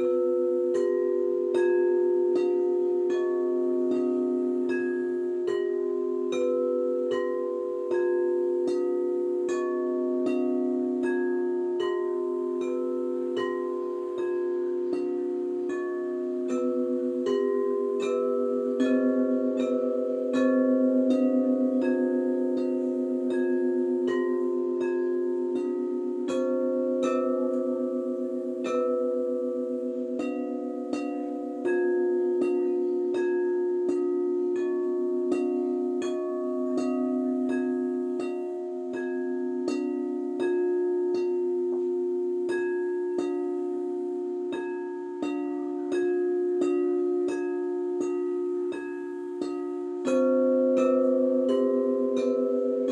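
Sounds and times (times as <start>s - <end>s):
crystal singing bowls struck: 0.0s - 52.9s.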